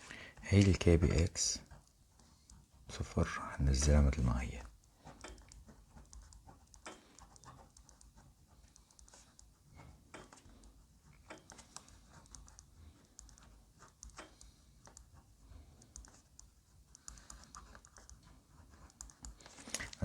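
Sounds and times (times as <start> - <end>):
faint irregular clicking and tapping: 0.0 - 20.0.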